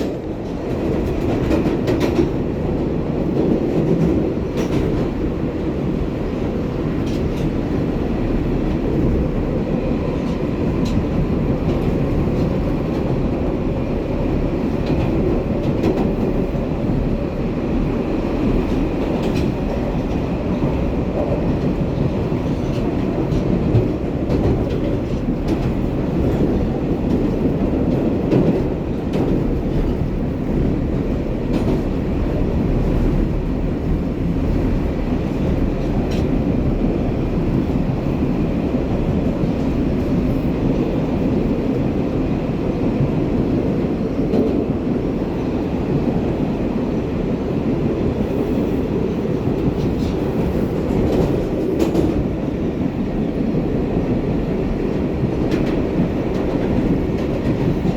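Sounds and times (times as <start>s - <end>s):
subway wheels rumbling on rail: 0.0s - 57.9s.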